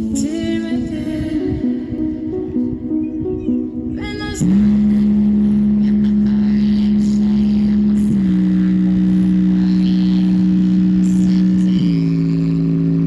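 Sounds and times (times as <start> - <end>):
buzzy low note from speaker: 1.3 - 13.0.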